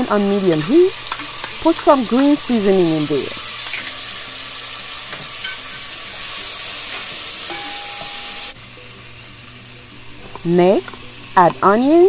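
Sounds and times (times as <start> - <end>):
seasoning sizzling in hot oil: 0.0 - 12.0.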